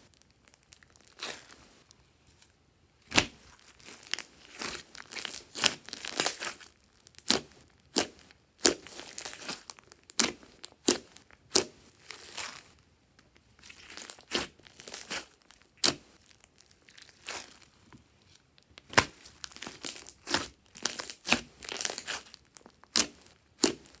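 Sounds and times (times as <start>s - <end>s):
slime popping and crackling: 0.1s - 1.5s, 3.1s - 12.6s, 13.6s - 17.8s, 18.6s - 24.0s.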